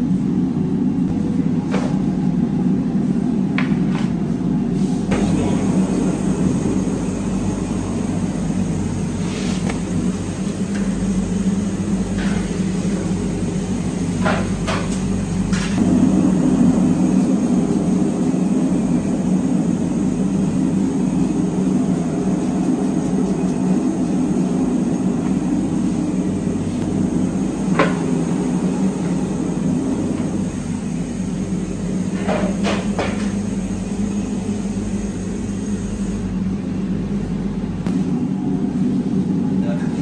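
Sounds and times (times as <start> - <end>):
gas oven humming: 0.0 - 40.0.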